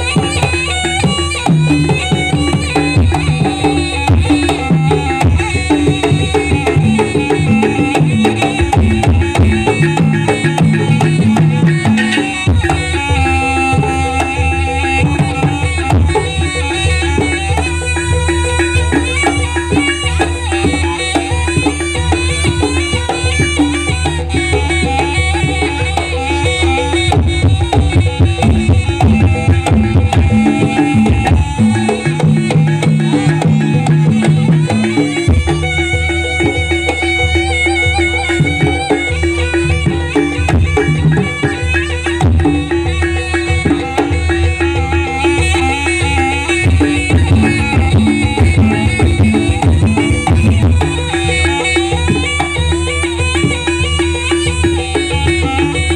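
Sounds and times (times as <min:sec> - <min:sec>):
gamelan melody: 0:00.0 - 0:55.9
hand drum strokes: 0:00.0 - 0:55.9.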